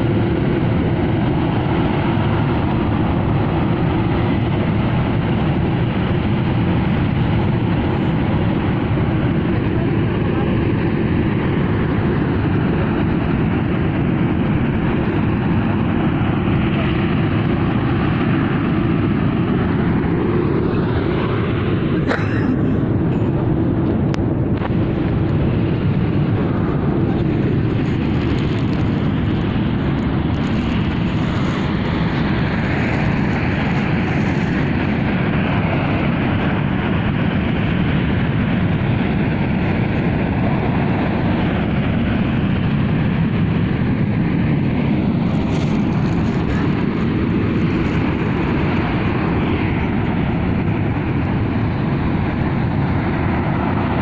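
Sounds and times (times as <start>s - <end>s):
low rumbling roar: 0.0s - 54.0s.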